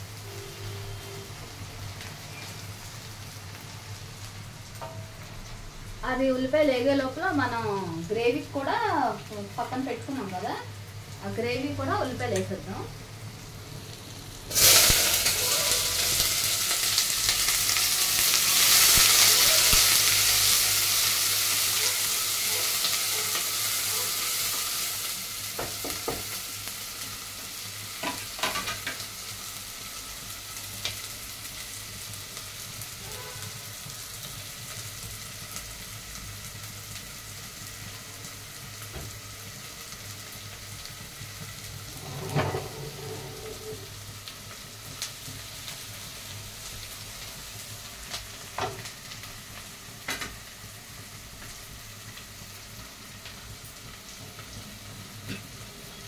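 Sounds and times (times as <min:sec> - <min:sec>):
onions sizzling in hot oil: 0:00.0 - 0:56.0.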